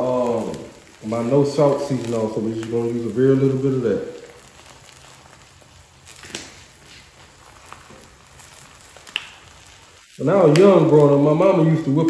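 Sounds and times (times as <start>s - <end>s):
eggs sizzling on a griddle: 0.0s - 12.0s.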